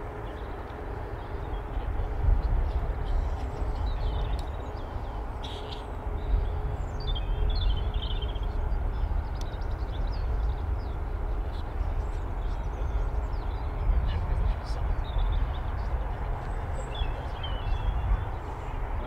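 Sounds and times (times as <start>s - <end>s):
jet engines low rumble: 0.0s - 19.0s
small birds chirping: 0.2s - 18.8s.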